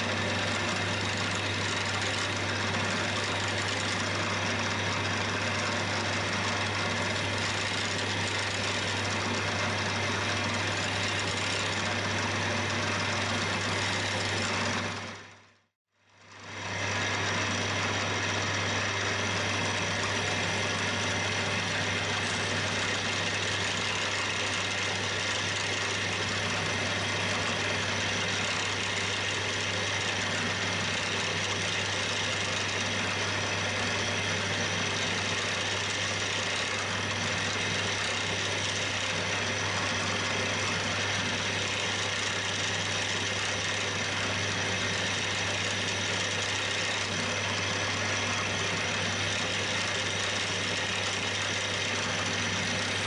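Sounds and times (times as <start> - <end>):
drill bit drilling into metal: 0.0 - 15.3, 16.4 - 53.0
milling machine spindle humming: 0.0 - 53.0.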